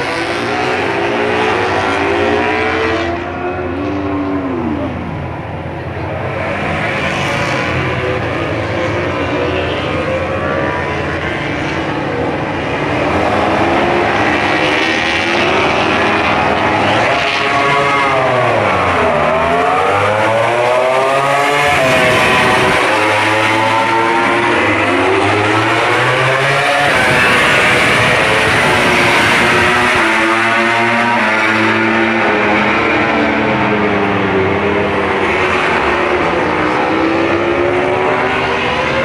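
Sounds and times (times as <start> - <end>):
racing motorcycle engines revving: 0.0 - 39.0.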